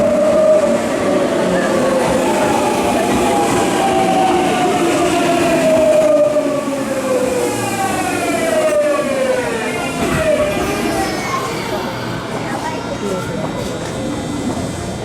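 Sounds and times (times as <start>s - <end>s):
train inverter whine: 0.0s - 15.0s.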